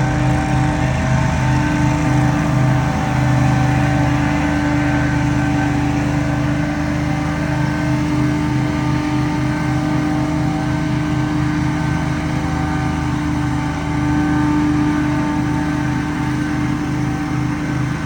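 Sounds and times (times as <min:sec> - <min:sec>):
leaf blower engine running: 0:00.0 - 0:18.0.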